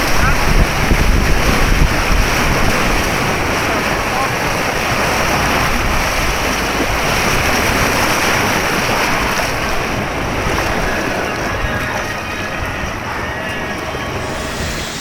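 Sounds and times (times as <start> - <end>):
rapids rushing: 0.0 - 15.0
wind noise on microphone: 0.0 - 15.0.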